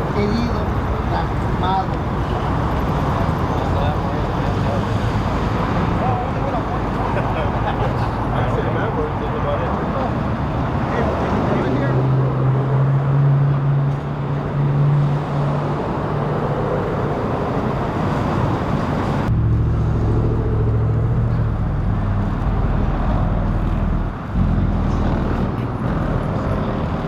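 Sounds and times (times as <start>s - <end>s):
street traffic noise: 0.0s - 27.0s
vehicle engine humming: 0.0s - 27.0s.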